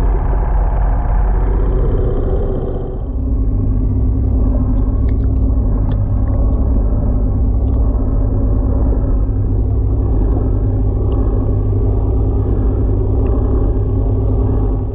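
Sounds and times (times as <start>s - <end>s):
boat engine running: 0.0s - 14.9s.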